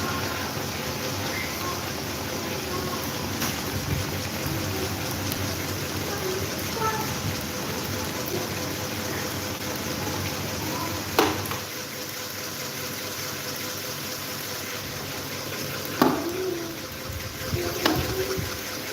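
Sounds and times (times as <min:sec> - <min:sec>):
faint motor hum: 0:00.0 - 0:18.9.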